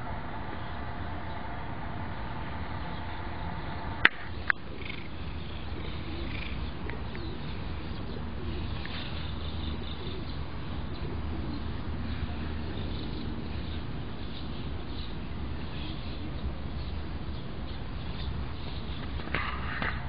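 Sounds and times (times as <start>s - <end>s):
steady low hum: 0.0s - 20.0s
faint bird calls: 2.8s - 20.0s.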